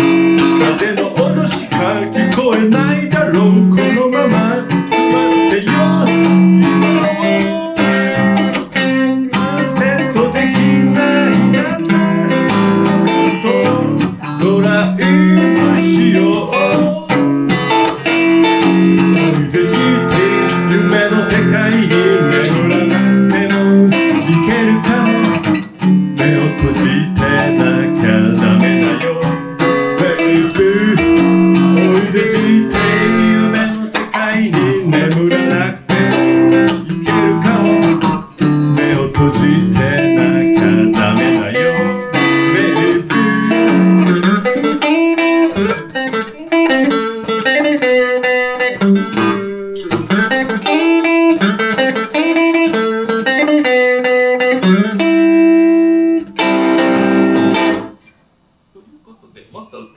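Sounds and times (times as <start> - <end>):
electric guitar playing: 0.0 - 58.2.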